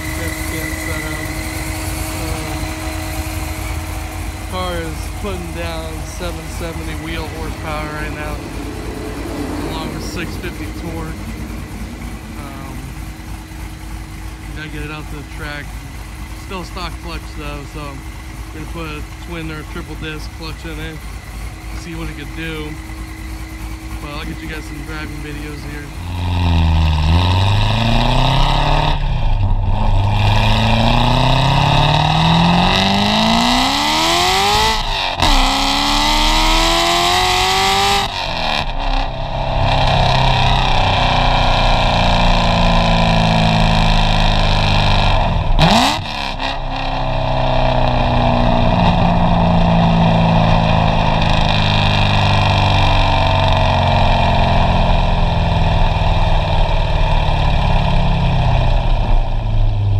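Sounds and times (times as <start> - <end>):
car exhaust revving: 0.0 - 59.9.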